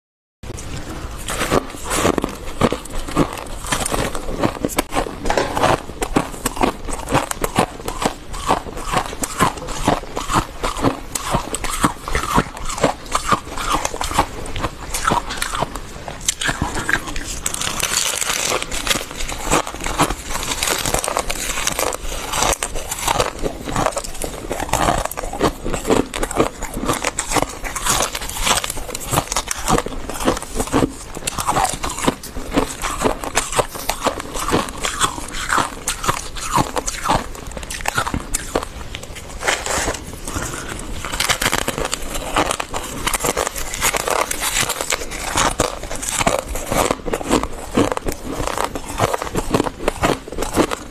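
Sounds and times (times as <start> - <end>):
frost being chewed crunching: 0.5 - 50.9.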